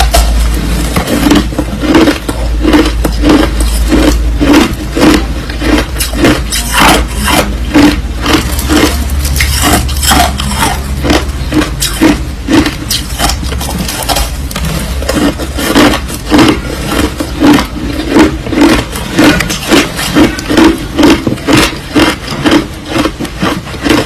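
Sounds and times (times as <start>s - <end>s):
crushed ice being chewed: 0.0s - 24.0s.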